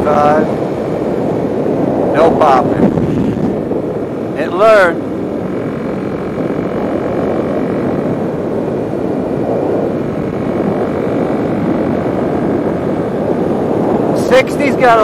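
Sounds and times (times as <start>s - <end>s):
motorcycle engine droning: 0.0s - 15.0s
wind rush: 0.0s - 15.0s.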